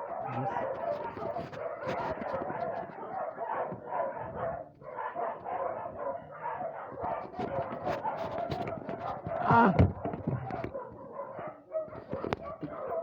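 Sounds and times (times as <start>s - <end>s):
dogs barking and yapping: 0.0s - 13.0s.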